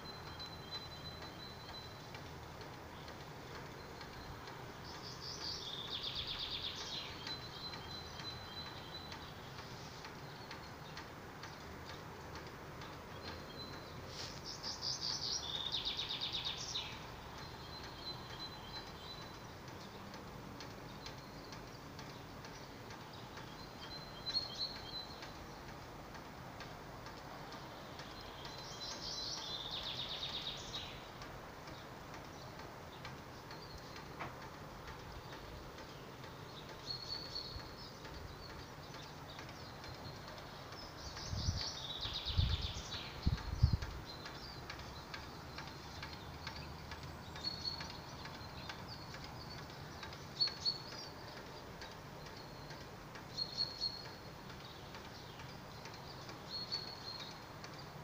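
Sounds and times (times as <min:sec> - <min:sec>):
songbird trilling: 0:00.0 - 0:11.0, 0:12.8 - 0:20.0, 0:20.9 - 0:25.7, 0:27.6 - 0:31.1, 0:34.9 - 0:58.0.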